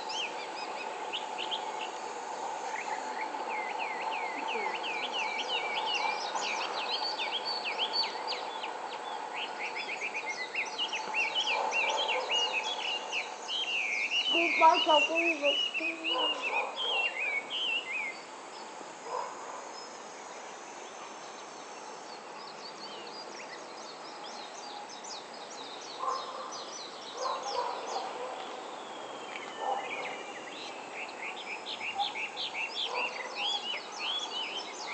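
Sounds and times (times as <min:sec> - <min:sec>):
songbirds chirping: 0:00.0 - 0:34.9
steady background hiss: 0:00.0 - 0:34.9.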